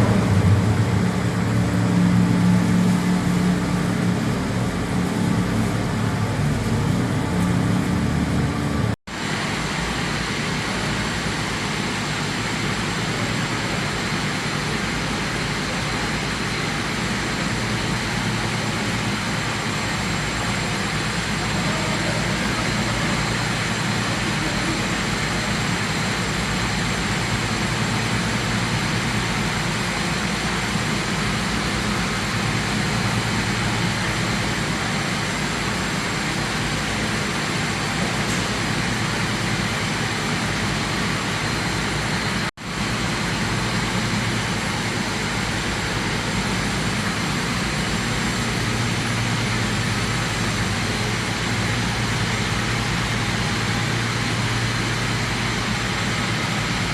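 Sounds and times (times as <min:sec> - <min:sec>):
low machine hum: 0:00.0 - 0:56.9
machinery roaring: 0:00.0 - 0:56.9.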